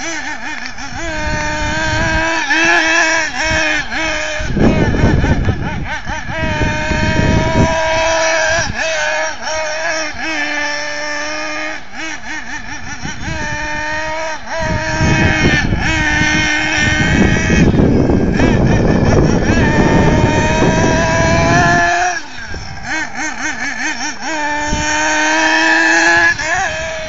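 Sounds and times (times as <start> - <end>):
low rumbling noise: 0.0 - 27.0
rc car motor buzzing: 0.0 - 27.0.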